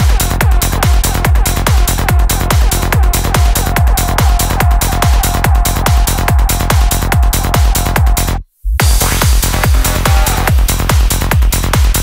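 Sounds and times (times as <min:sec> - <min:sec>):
psytrance music: 0:00.0 - 0:12.0.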